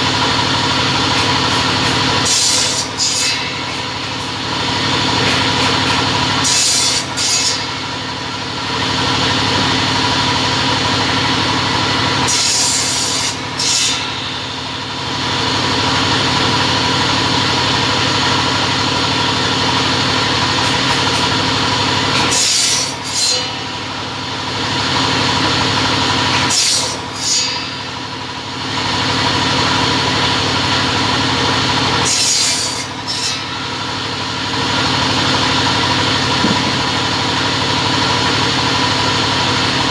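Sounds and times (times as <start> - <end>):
cutting saw humming: 0.0 - 39.9
saw cutting material: 0.0 - 39.9.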